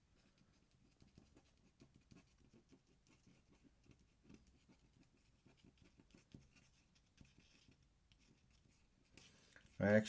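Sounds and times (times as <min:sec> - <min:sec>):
pen scratching on paper: 0:00.0 - 0:09.9.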